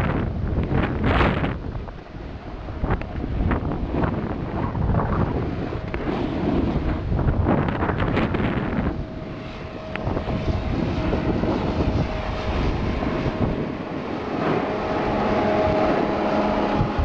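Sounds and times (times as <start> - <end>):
steady hum: 0.0 - 17.0
wind rushing over microphone: 0.0 - 17.0.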